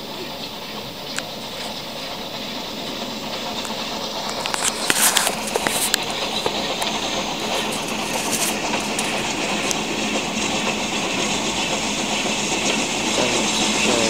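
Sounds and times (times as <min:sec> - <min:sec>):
train running on track: 0:00.0 - 0:14.0.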